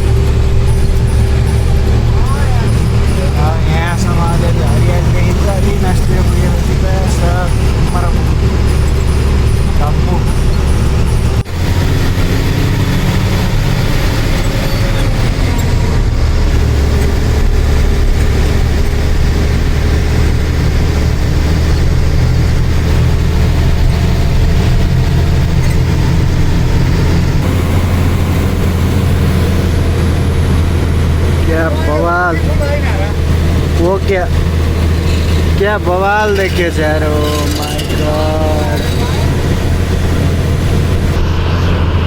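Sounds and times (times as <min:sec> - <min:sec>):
road noise: 0:00.0 - 0:42.0
truck diesel engine droning: 0:00.0 - 0:42.0.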